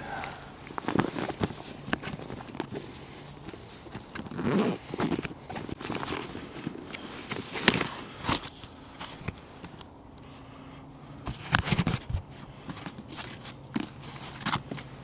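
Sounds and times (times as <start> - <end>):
camping gear rustling and knocking: 0.0 - 10.0, 11.2 - 15.0.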